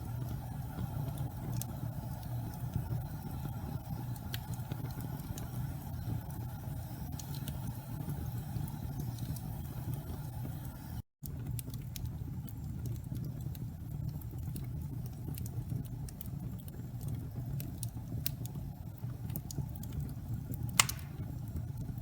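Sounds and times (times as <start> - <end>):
fire crackles: 0.0 - 22.0
fire roaring in fireplace: 0.0 - 22.0.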